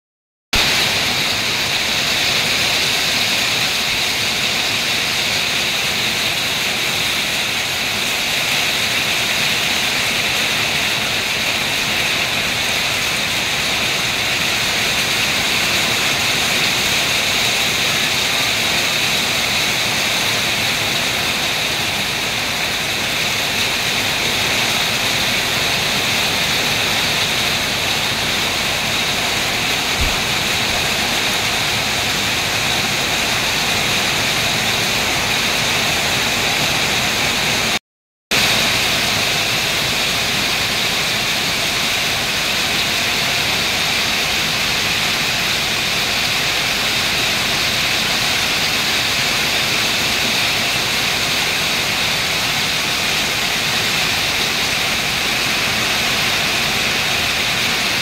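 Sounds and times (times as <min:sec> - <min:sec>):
heavy rain pouring: 0:00.6 - 0:58.0.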